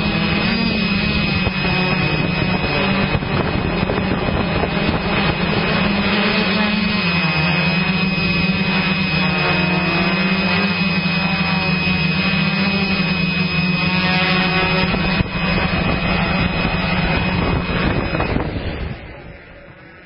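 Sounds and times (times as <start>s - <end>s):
motocross bike engine running: 0.0s - 19.0s.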